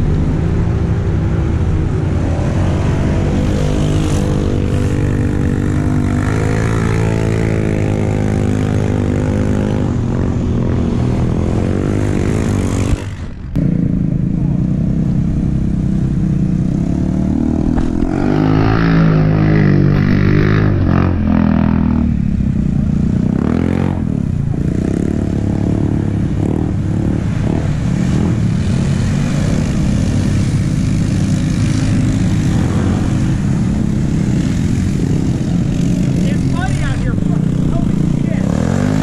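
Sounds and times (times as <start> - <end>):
atv engines running: 0.0 - 39.0
steady low drone: 0.0 - 39.0.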